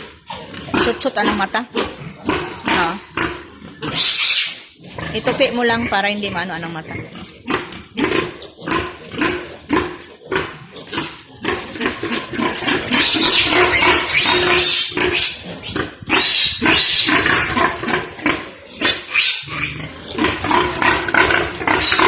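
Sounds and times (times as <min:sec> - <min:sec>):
pigs squealing: 0:00.0 - 0:22.0.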